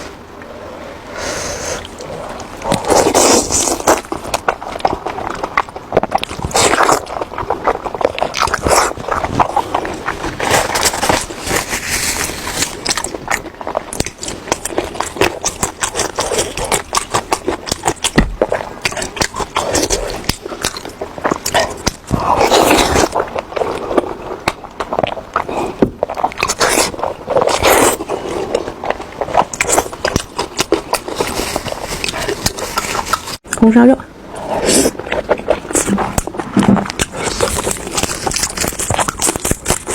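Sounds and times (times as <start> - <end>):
wet chewing and mouth smacking: 1.6 - 33.7, 34.4 - 39.9.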